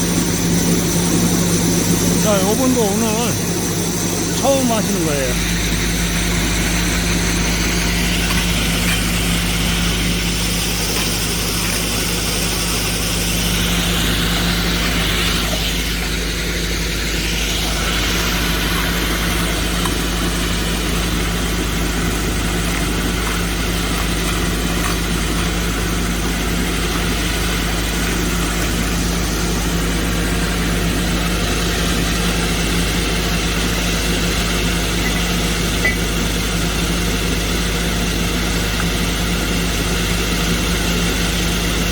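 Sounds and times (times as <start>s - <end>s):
excavator engine and hydraulics: 0.0s - 41.9s
hydraulic core drill boring rock: 0.0s - 41.9s.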